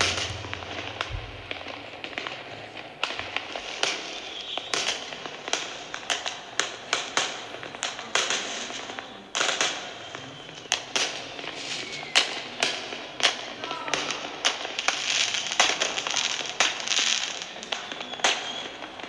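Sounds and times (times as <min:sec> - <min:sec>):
fireworks crackling: 0:00.0 - 0:19.0
recorded fireworks bangs: 0:00.0 - 0:19.0.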